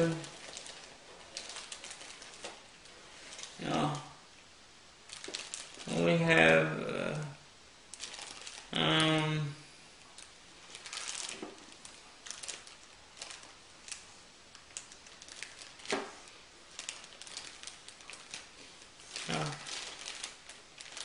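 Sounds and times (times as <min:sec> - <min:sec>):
plastic bag crinkling: 0:00.0 - 0:04.3, 0:05.0 - 0:21.0.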